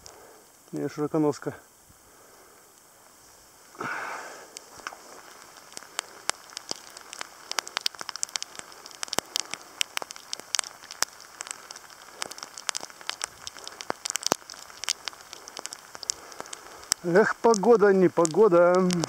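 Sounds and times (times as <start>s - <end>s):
rain drops ticking: 0.0s - 19.0s
rain hiss: 0.0s - 19.0s.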